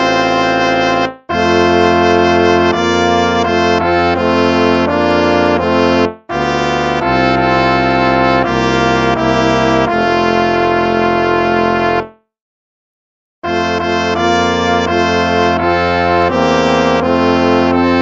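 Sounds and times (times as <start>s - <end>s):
instrumental hymn music: 0.0s - 12.2s, 13.4s - 18.0s.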